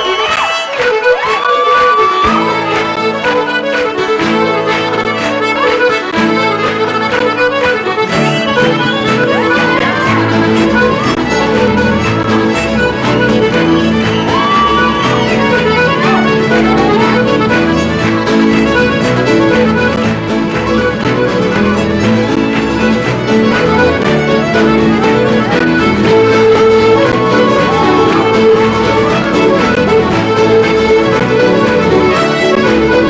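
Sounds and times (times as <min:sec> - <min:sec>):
accordion and fiddle tune: 0:00.0 - 0:33.0.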